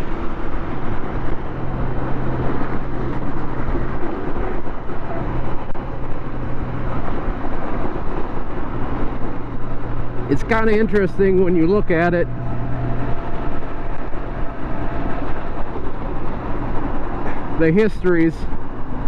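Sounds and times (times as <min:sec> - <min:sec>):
motorcycle engine drone: 0:00.0 - 0:18.8
wind and road rush: 0:00.0 - 0:19.0.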